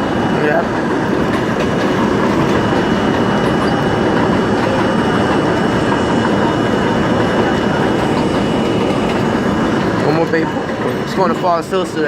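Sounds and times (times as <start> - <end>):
subway train wheels on rail: 0.0 - 12.0.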